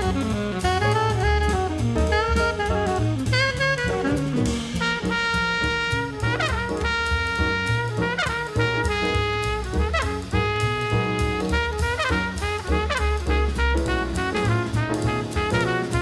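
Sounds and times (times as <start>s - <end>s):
upbeat jazz with saxophone: 0.0s - 16.0s.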